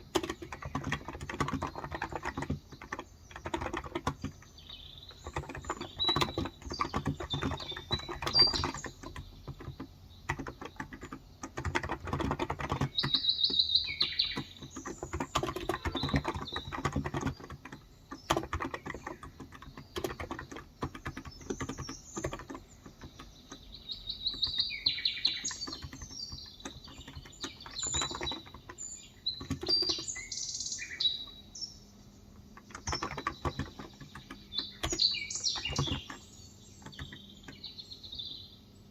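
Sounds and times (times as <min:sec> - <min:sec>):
small birds chirping: 0:00.0 - 0:38.9
soft keyboard typing: 0:00.0 - 0:38.9.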